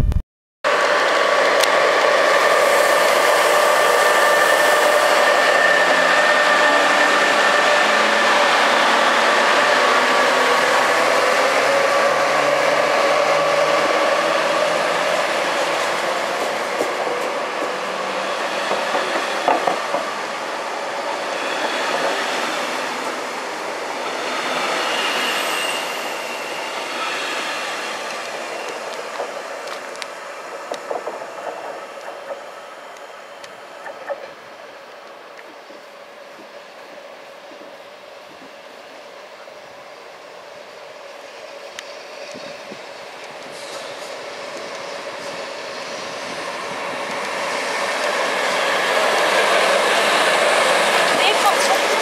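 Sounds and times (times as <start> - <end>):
electric train rolling past: 0.7 - 52.0.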